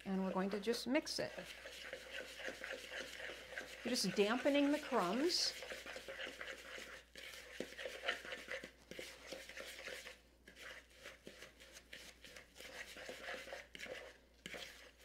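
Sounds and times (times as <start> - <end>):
crumbs stirred in plastic bowl: 0.0 - 15.0.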